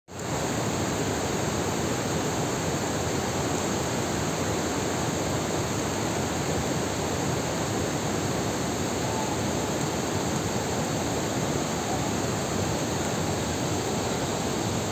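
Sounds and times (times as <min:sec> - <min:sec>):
waterfall rushing: 0:00.3 - 0:14.9.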